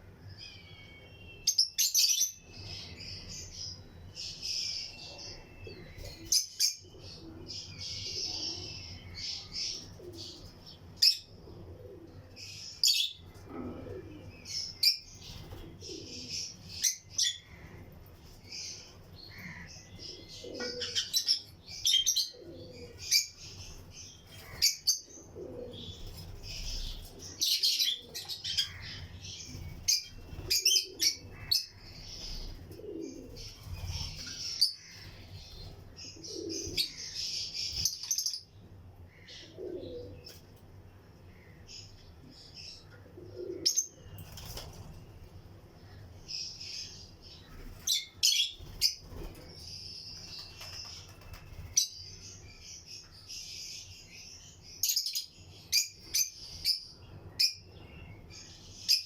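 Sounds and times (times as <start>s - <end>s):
lovebirds chirping: 0.0s - 40.5s, 41.2s - 59.0s.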